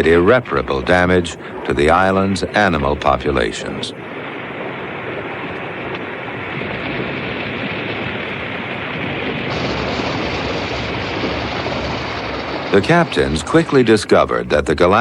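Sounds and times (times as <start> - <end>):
waves and surf rushing: 0.0 - 15.0.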